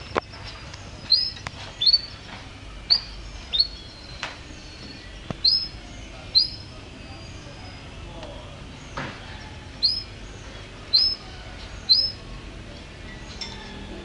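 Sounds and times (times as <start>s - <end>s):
canary chirping: 0.0s - 7.9s, 8.8s - 12.3s.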